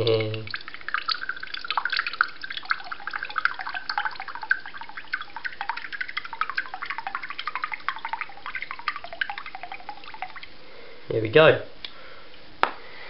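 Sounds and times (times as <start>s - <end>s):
sauce dripping into plastic cup: 0.0s - 10.6s.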